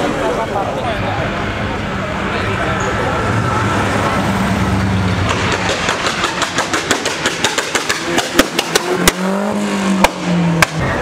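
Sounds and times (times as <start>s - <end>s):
car engine revving: 1.3s - 11.0s
loud exhaust bangs: 1.4s - 11.0s.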